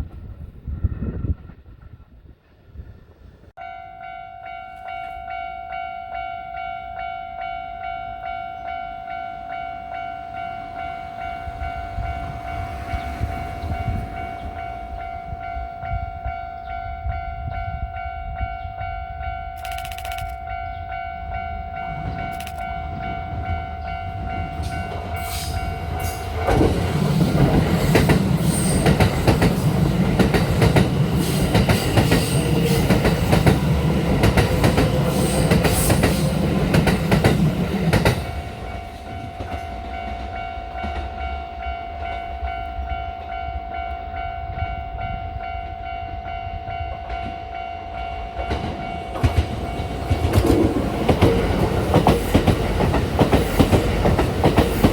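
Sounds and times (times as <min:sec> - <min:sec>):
train rumble: 0:09.1 - 0:54.9.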